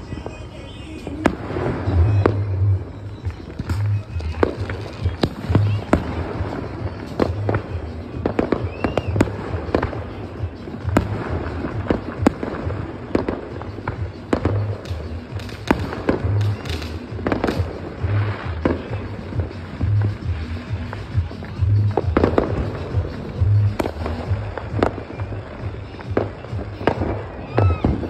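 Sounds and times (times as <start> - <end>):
firework whistle: 0.0 - 28.0
fireworks and firecrackers banging: 0.0 - 28.0.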